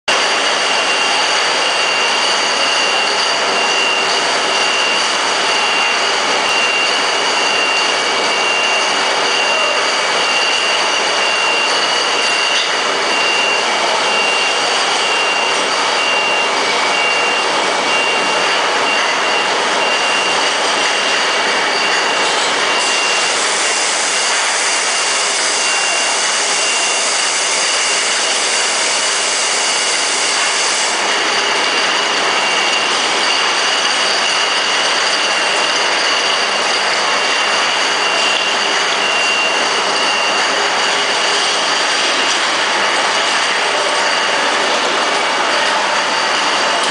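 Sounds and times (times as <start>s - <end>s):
high mechanical whine: 0.1s - 46.9s.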